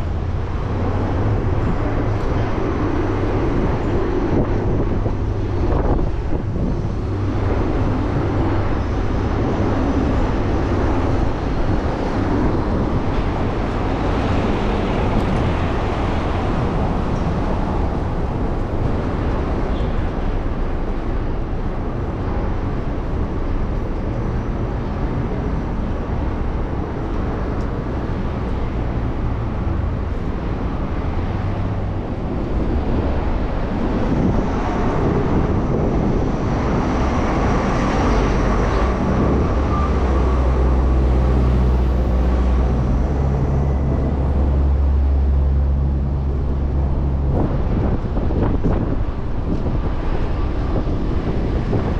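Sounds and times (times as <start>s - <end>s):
low engine hum: 0.0s - 51.9s
street traffic: 0.0s - 51.9s
wind on microphone: 0.0s - 51.9s.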